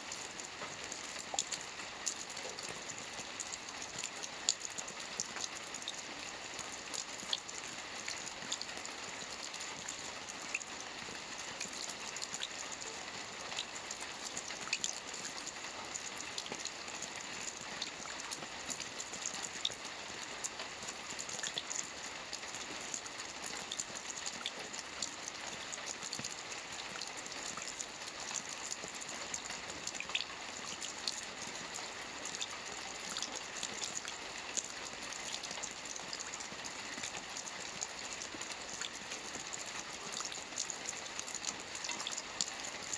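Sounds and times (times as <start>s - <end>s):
rain pattering on a roof: 0.0s - 42.9s.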